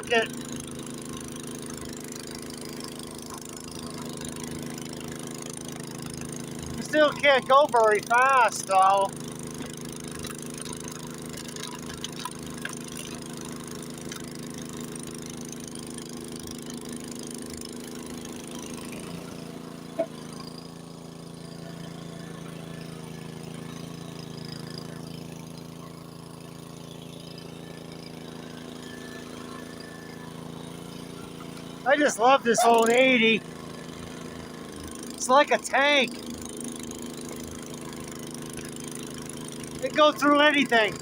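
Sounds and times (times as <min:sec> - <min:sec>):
snowblower engine running: 0:00.0 - 0:41.0.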